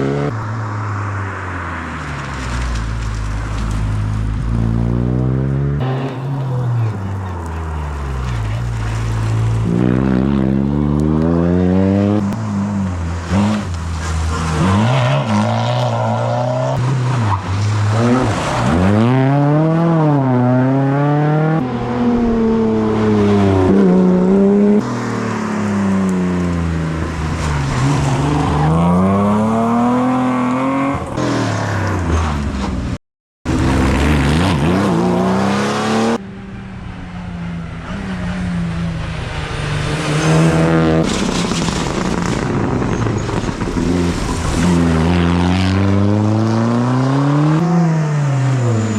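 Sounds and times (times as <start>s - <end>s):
rally car engines revving past: 0.0s - 48.9s.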